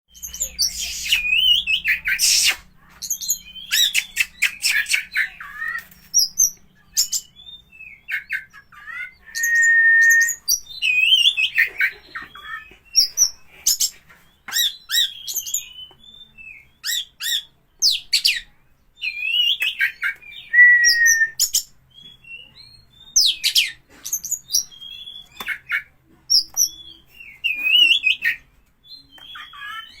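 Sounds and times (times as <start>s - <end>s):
songbird singing: 0.1s - 13.4s, 14.4s - 30.0s.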